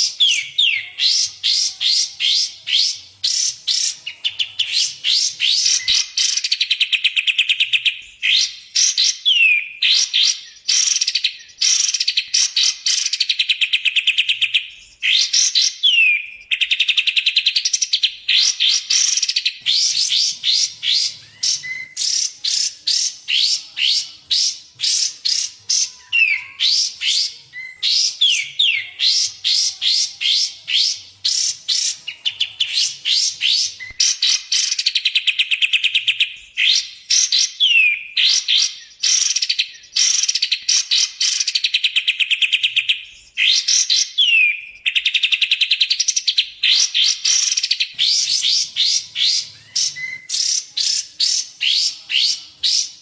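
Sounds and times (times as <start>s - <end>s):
songbirds whistling: 0.0s - 53.0s.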